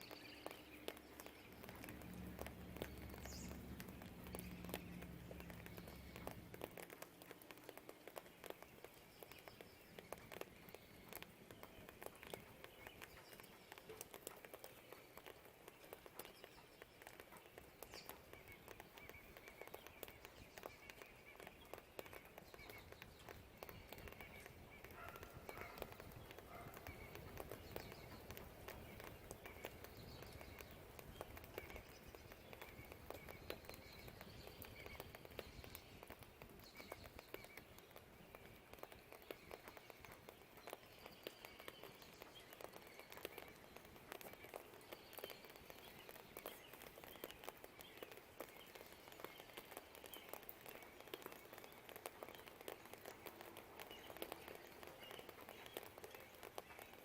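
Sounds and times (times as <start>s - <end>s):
faint birdsong: 0.0s - 57.0s
rain dripping and pattering: 0.0s - 57.0s.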